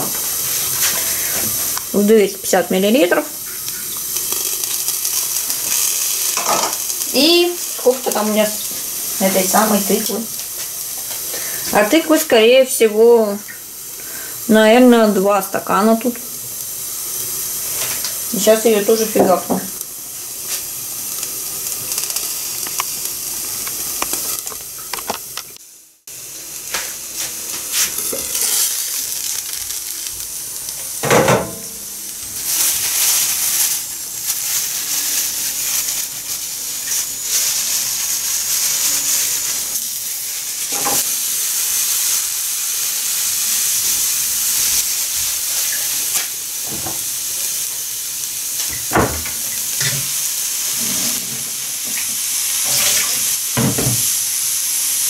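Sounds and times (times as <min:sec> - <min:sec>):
vegetables sizzling in oil: 0:00.0 - 0:55.0.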